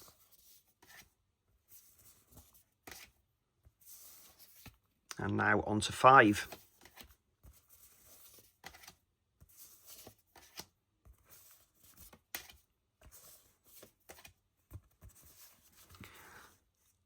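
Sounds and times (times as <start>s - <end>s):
cards rustling and sliding: 0.0s - 3.2s, 3.8s - 4.8s, 6.2s - 16.7s.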